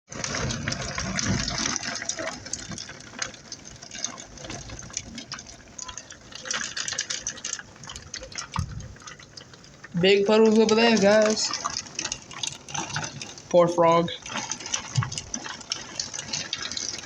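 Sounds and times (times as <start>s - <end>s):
rain pattering: 0.1s - 17.0s.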